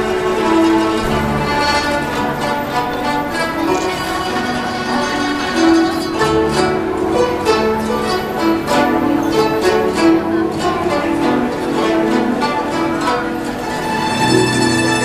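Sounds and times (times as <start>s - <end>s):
plucked zither ensemble: 0.0s - 15.0s.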